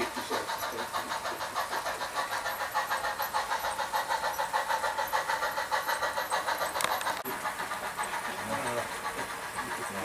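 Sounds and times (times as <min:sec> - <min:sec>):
model train fast pulsing: 0:00.0 - 0:10.0.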